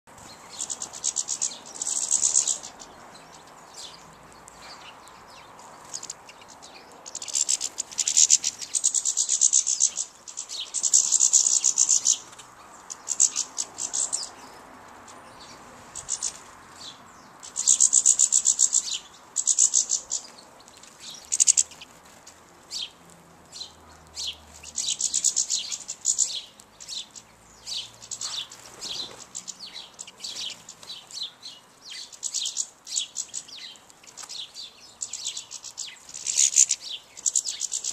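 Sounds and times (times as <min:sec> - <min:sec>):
finches twittering: 0:00.2 - 0:21.9, 0:22.7 - 0:37.9.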